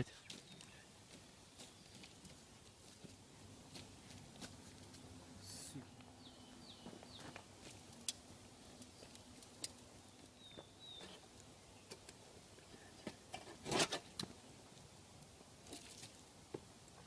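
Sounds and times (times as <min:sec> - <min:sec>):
smouldering campfire crackling: 0:00.0 - 0:17.0.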